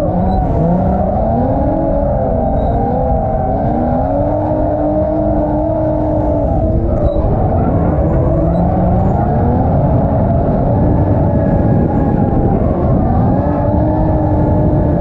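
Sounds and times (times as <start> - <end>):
car engine at high revs: 0.0 - 15.0
tyre and road noise: 0.0 - 15.0.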